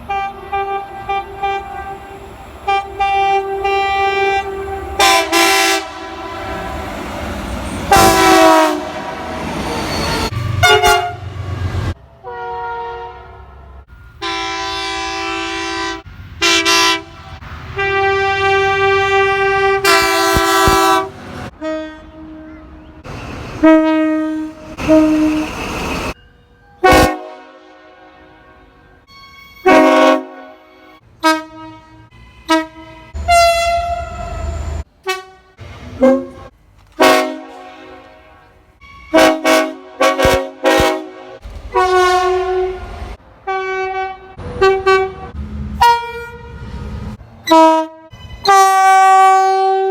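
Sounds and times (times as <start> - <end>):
locomotive horns: 0.0 - 49.9.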